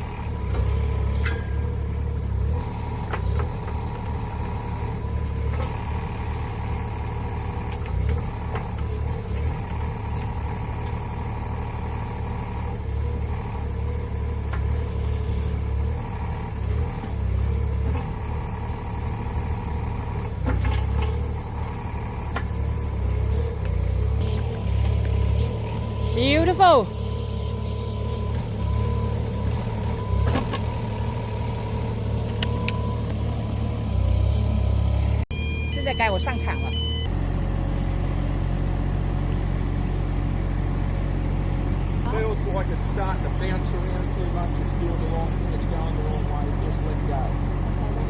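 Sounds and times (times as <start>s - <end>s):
excavator engine running: 0.0s - 48.0s
hydraulic whine: 0.0s - 48.0s.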